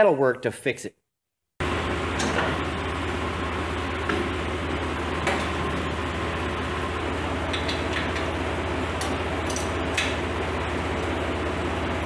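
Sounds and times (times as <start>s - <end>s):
diesel tractor engine idling: 1.6s - 12.0s.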